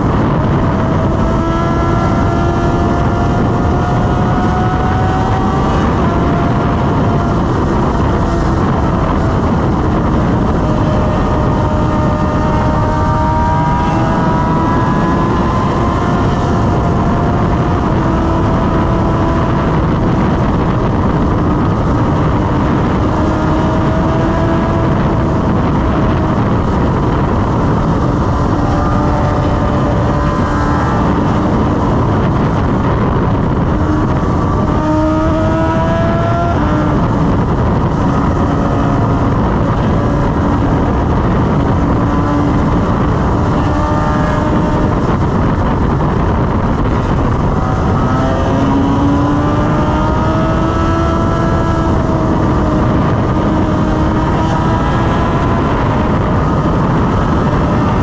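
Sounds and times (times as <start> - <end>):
motorcycle engine at high speed: 0.0 - 58.0
wind rush: 0.0 - 58.0.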